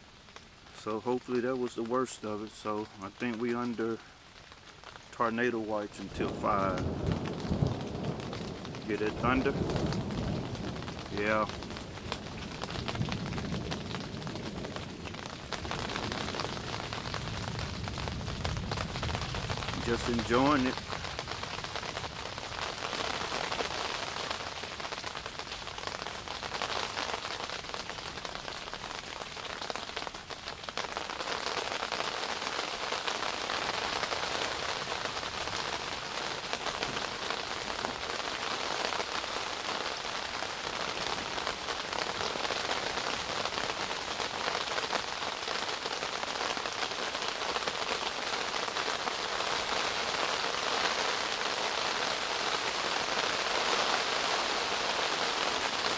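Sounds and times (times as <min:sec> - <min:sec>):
rain on a tent: 0:00.0 - 0:55.9.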